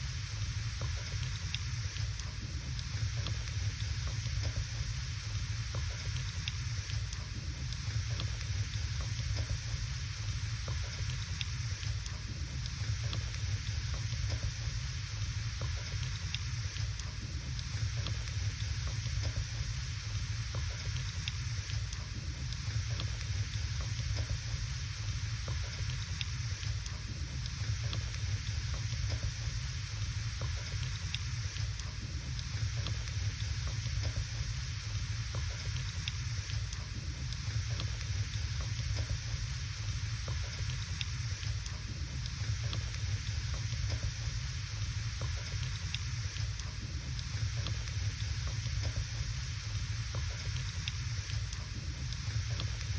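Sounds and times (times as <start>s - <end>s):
steady hiss: 0.0s - 52.9s.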